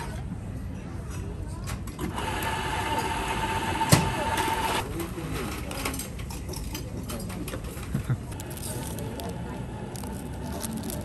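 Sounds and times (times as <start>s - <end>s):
background cafe voices: 0.2s - 11.0s.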